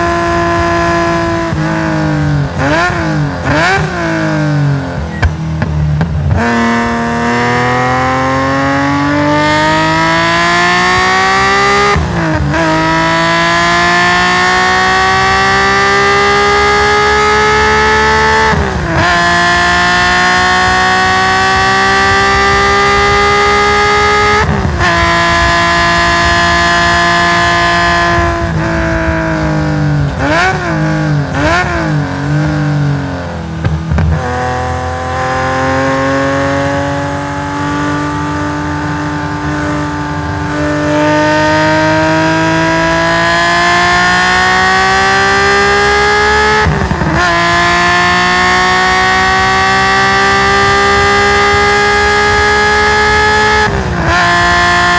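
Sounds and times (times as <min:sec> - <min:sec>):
race car engine at full throttle: 0:00.0 - 0:54.9.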